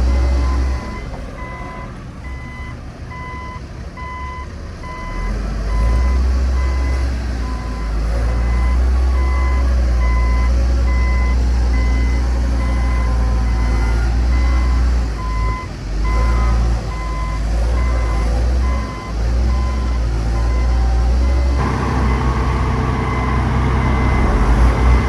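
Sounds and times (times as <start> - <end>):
diesel engine rumble: 0.0 - 25.0
truck reversing alarm beeping: 0.0 - 25.0.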